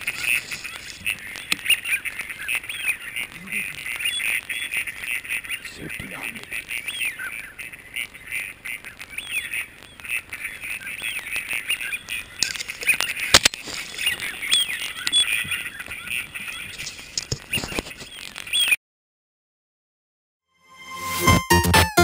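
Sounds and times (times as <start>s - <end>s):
birds chirping: 0.0s - 18.8s.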